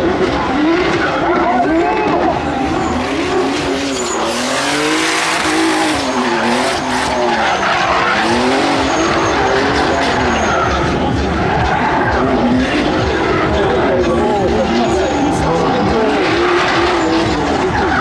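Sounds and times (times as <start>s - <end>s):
car engine revving: 0.0s - 18.0s
tyres squealing: 1.0s - 18.0s.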